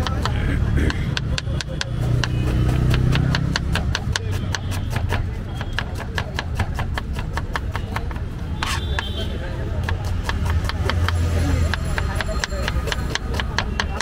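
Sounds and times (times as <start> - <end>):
knife chopping on plastic board: 0.0 - 14.0.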